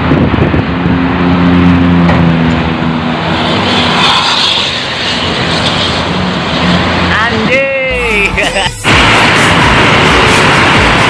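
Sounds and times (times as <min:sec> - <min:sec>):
bus passing: 0:00.0 - 0:11.0
highway traffic: 0:00.0 - 0:11.0.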